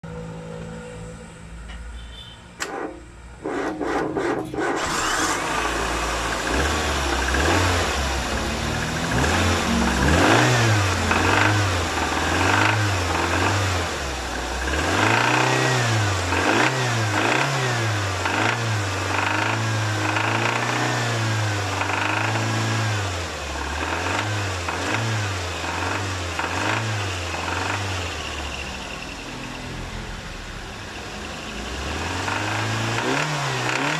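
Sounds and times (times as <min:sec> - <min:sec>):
car engine starting and revving: 0:02.6 - 0:33.9.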